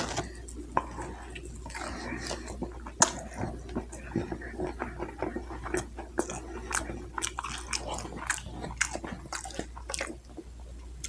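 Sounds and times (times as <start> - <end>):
close chewing and biting: 0.0 - 11.0.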